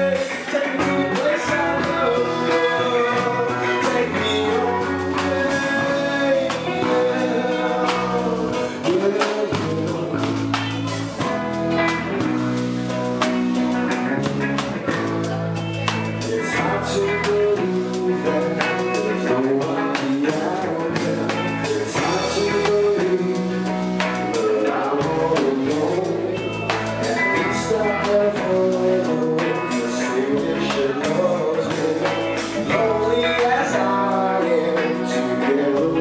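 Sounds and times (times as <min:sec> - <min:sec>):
drum kit: 0:00.0 - 0:36.0
electric guitar: 0:00.0 - 0:36.0
person singing: 0:00.0 - 0:36.0.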